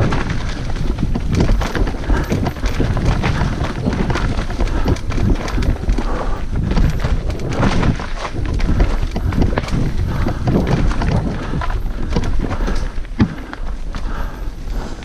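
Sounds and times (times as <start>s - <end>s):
bike clattering over roots: 0.0s - 15.0s
wind rumble on microphone: 0.0s - 15.0s.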